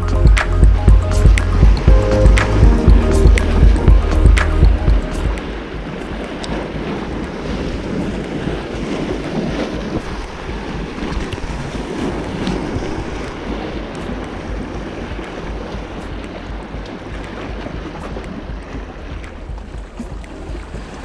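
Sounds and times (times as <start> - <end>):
sea waves: 0.0 - 21.0
wind buffeting microphone: 0.0 - 21.0.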